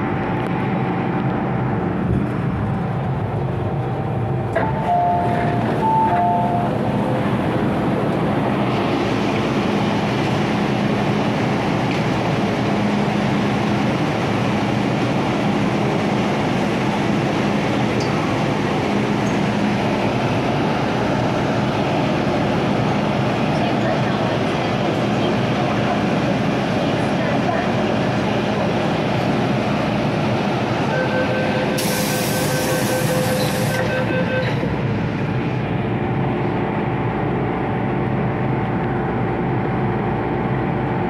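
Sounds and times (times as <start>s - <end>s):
train motor hum: 0.1s - 41.0s
station noise: 2.8s - 37.2s.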